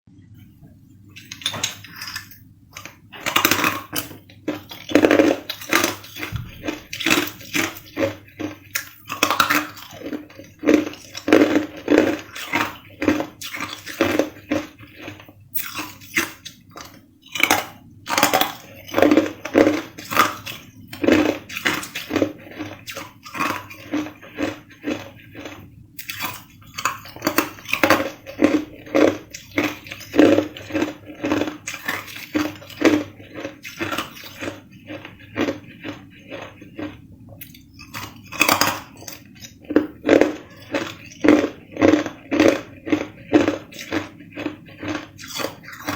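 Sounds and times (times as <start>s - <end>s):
person crunching ice: 3.2s - 37.0s, 37.8s - 45.9s.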